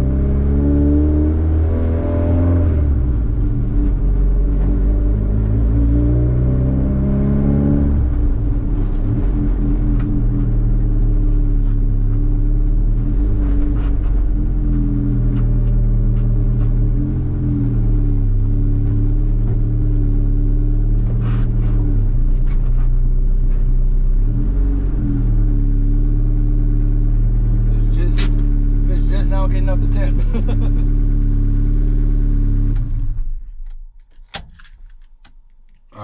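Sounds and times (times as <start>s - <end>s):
car engine running: 2.2s - 35.0s.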